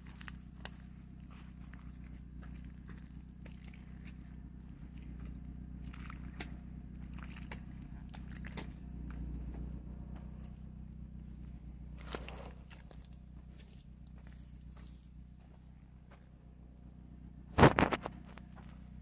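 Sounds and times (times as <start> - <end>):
footsteps squelching in mud: 0.0 - 16.3
low rumble: 0.0 - 19.0.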